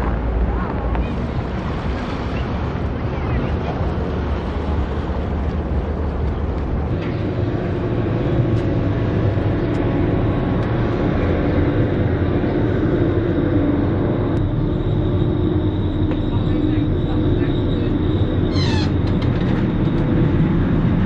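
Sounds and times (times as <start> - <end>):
ferry engines rumbling: 0.0 - 21.0.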